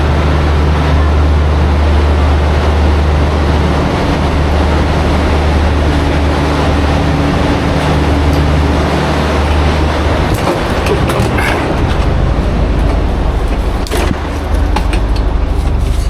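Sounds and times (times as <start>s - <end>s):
diesel train deep hum and rumble: 0.0s - 16.0s.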